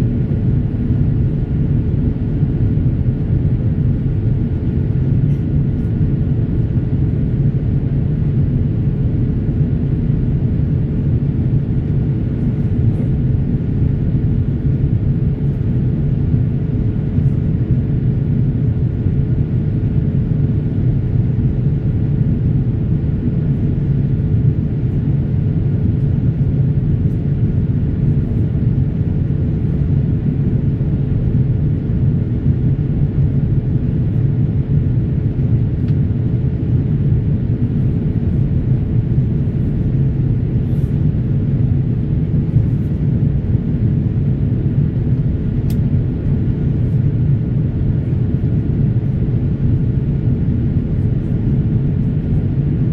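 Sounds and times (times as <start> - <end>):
faint steady hum: 0.0 - 52.9
jet engine low rumble: 0.0 - 52.9.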